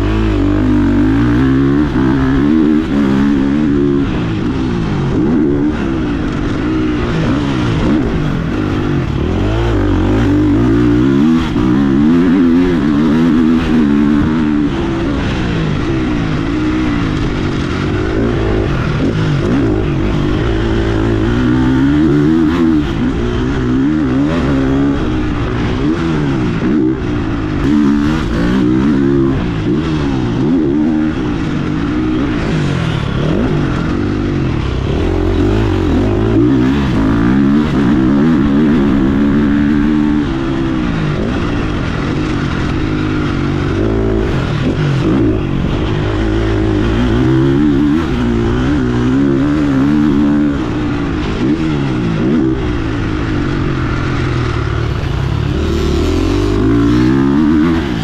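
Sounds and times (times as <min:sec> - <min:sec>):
motocross bike revving: 0:00.0 - 0:58.0.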